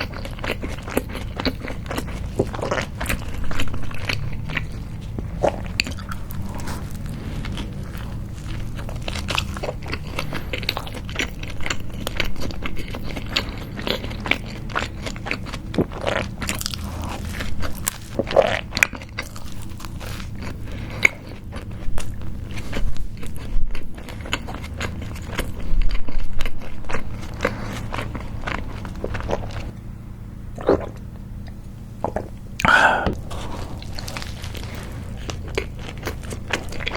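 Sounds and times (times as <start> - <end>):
biting and chewing burger: 0.0 - 29.8, 30.5 - 36.9
bun crunching: 0.0 - 29.8, 30.6 - 36.9.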